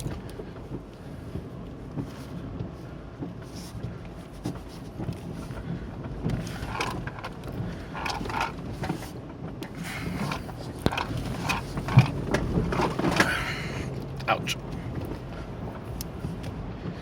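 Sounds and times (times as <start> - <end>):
vehicle engine running low: 0.0 - 17.0.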